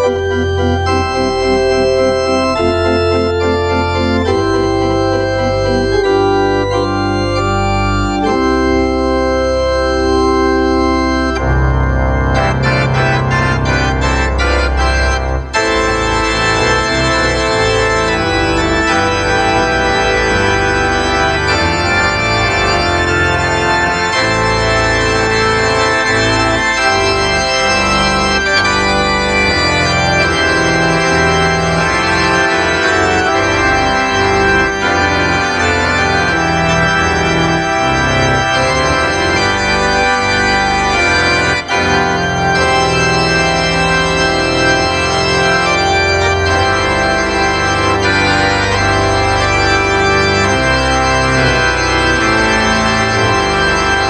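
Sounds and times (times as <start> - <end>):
organ playing chords: 0.0 - 54.0.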